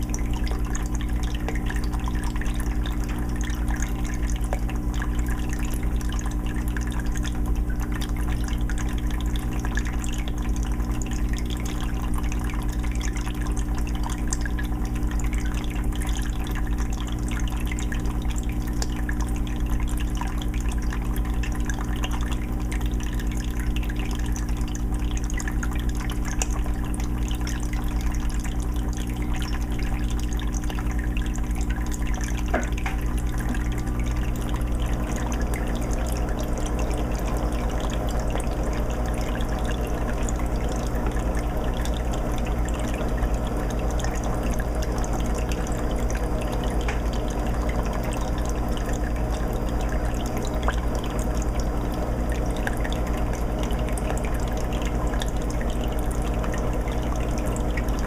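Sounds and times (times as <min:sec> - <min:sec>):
low filter hum: 0:00.0 - 0:58.0
water dripping: 0:00.0 - 0:58.0
water splashing and trickling: 0:00.0 - 0:58.0.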